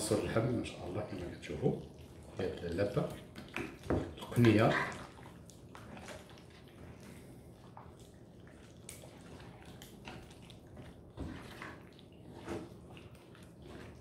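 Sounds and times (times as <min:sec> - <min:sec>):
wet squelches: 0:00.0 - 0:14.0
wet squishing of hands massaging meat: 0:00.0 - 0:14.0.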